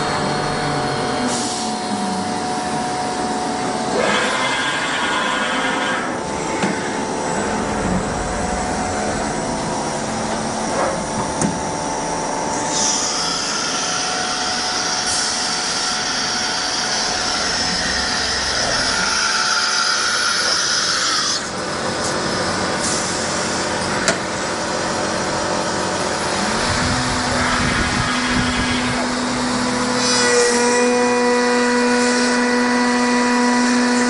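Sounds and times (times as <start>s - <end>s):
high whine: 0.0s - 31.1s
milling machine humming: 0.0s - 34.0s.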